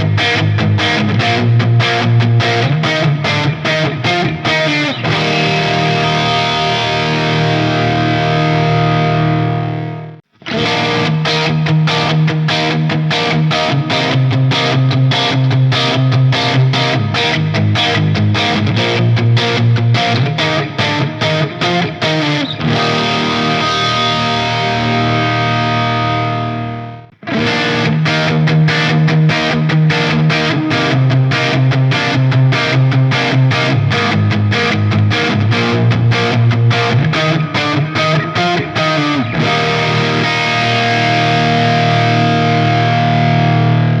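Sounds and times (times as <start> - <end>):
distorted electric guitar: 0.0 - 44.0.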